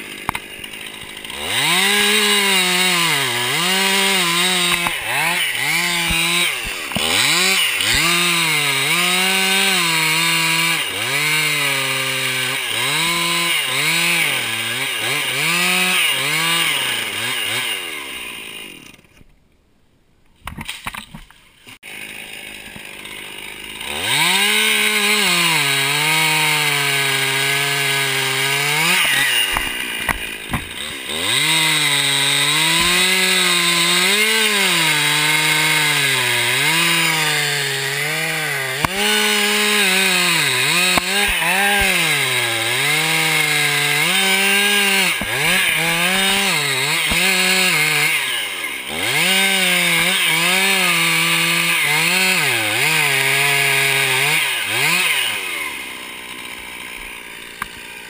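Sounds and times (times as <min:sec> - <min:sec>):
chainsaw cutting wood: 0:00.0 - 0:19.3, 0:20.5 - 0:58.0.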